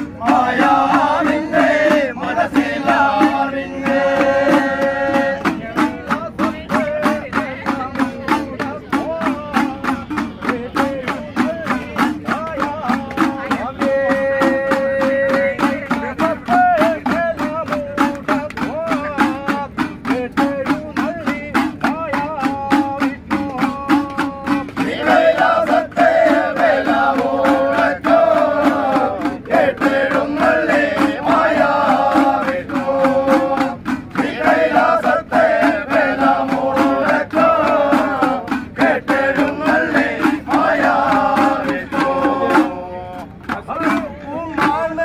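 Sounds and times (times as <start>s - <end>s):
clicking hand percussion: 0.0s - 45.0s
men singing devotional song: 0.0s - 45.0s.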